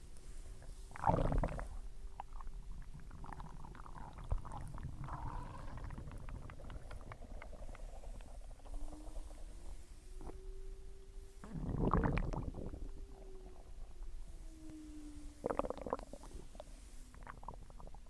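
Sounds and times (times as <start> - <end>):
stomach bubbling and squelching: 0.6 - 10.4, 11.4 - 14.8, 15.4 - 18.0
stomach growling: 0.6 - 10.7, 11.4 - 18.0.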